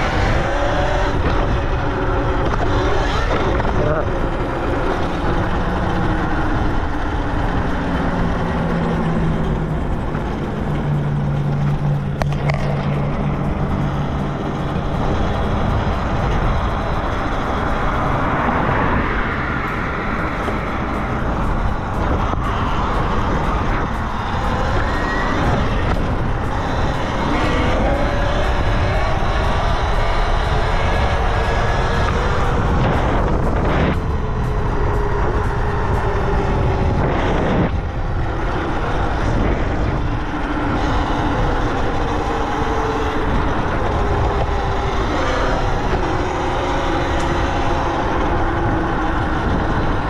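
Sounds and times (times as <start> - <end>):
road noise: 0.0 - 50.0
wind rushing over microphone: 0.0 - 50.0.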